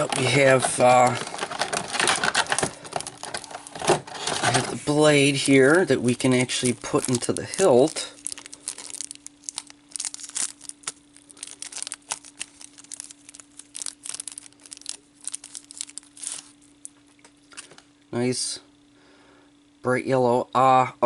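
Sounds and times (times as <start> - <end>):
plastic packaging crinkling and tearing: 0.0 - 17.8
faint steady hum: 0.0 - 21.0.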